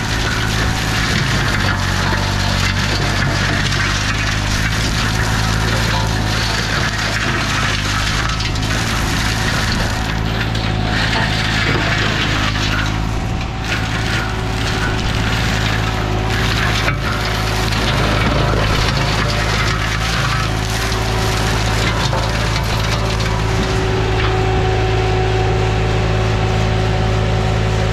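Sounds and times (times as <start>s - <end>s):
wood crackling and splintering: 0.0s - 27.3s
mower engine running: 0.0s - 27.9s.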